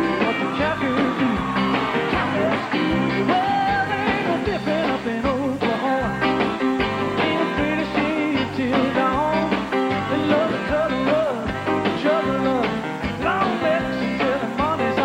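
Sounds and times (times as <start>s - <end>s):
live country band playing: 0.0s - 15.0s.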